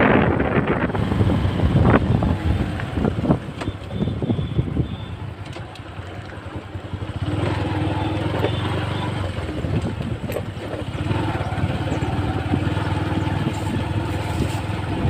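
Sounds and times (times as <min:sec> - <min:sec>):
wind buffeting microphone: 0:00.0 - 0:07.8, 0:09.2 - 0:15.0
motorcycle engine running: 0:00.0 - 0:15.0.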